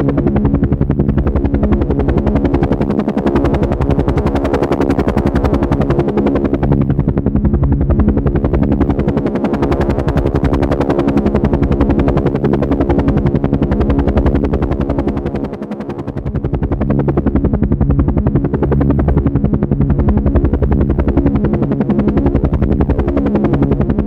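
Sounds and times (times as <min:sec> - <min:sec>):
helicopter engine drone: 0:00.0 - 0:24.0
helicopter rotor chop: 0:00.0 - 0:24.0.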